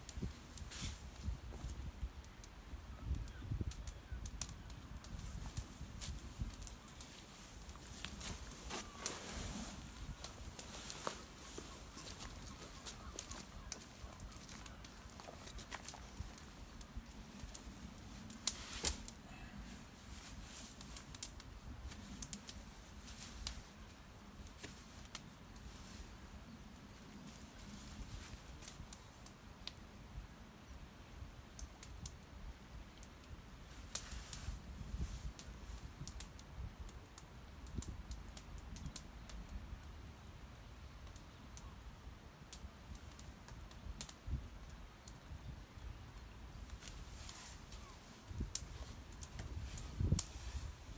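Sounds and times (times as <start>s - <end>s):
wood fire crackling and popping: 0.0s - 40.3s, 40.9s - 50.9s.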